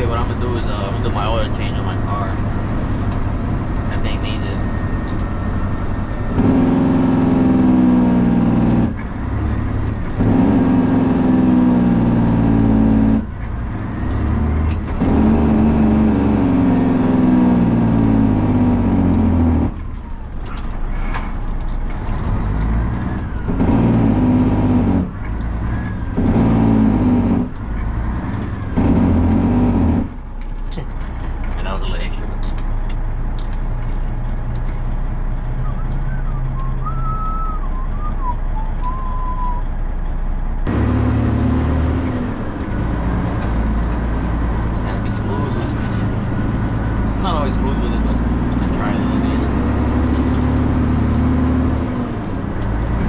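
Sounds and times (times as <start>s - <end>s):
truck diesel engine under load: 0.0s - 53.0s.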